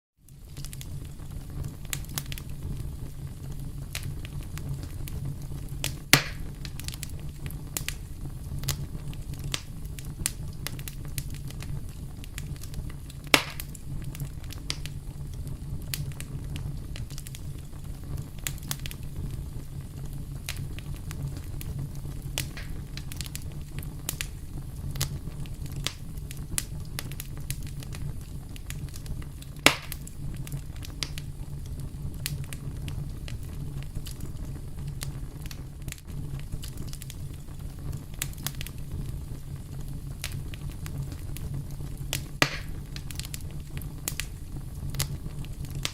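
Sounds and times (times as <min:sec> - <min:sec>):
campfire wood crackling: 0:00.2 - 0:45.9.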